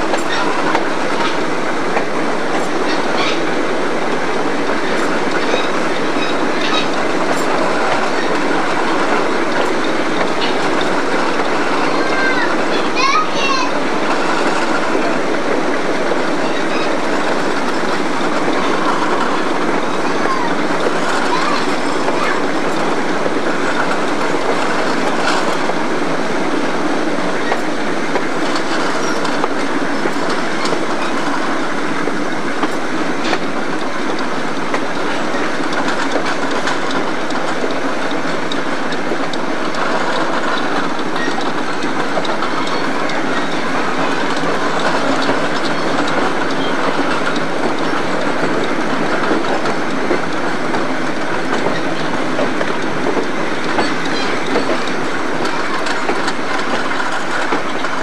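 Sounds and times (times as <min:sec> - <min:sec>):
train wheels on track: 0:00.0 - 0:58.0.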